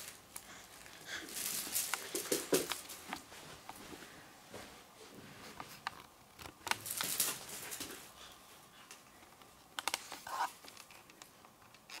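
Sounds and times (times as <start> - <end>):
cat rustling and scratching: 0.0 - 12.0.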